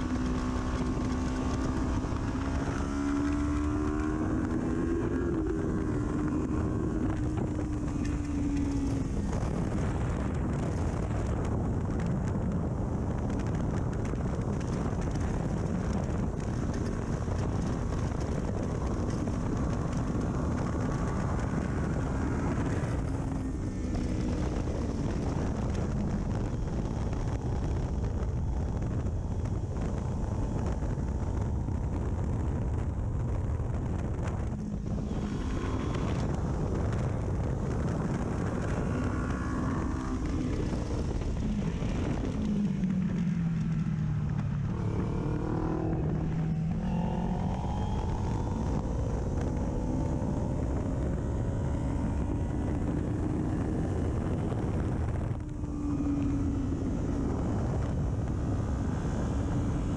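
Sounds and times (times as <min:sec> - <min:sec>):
motorcycle engine revving: 0:00.0 - 0:59.9
wind on microphone: 0:00.0 - 0:59.9.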